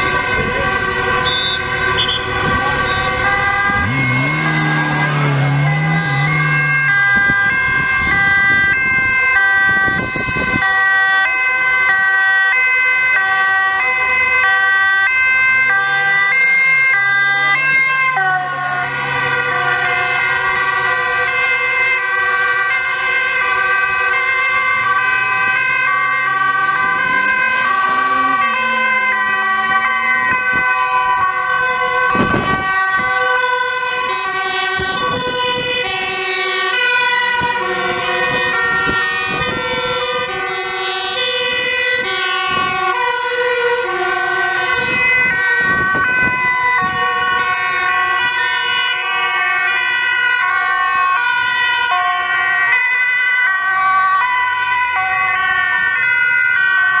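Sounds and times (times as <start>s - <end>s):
vehicle engines accelerating: 0.0s - 10.6s, 13.7s - 49.4s
fire engine siren passing: 0.0s - 57.0s
two-tone emergency sirens: 0.0s - 57.0s.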